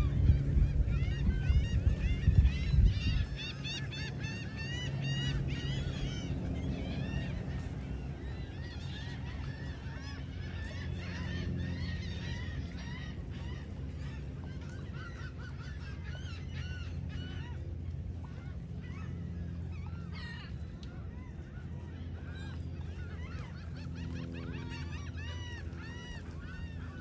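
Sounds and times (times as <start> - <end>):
gulls squawking: 0.0 - 27.0
low steady rumble: 0.0 - 27.0.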